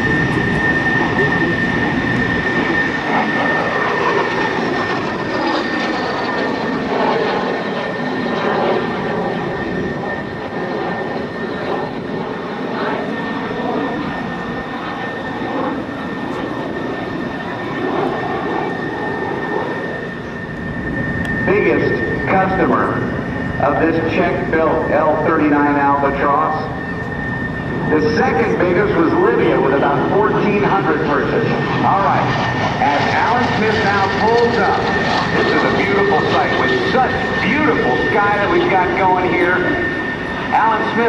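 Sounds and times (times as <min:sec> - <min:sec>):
jet engine roar with high whine: 0:00.0 - 0:41.0.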